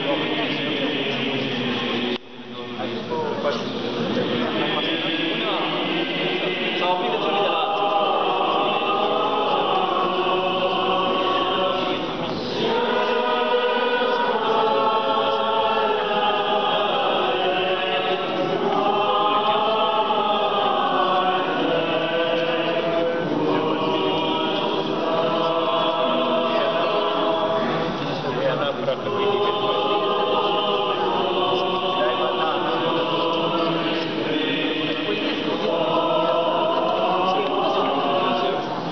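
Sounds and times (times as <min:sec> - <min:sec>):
choir singing unaccompanied chant: 0:00.0 - 0:38.9.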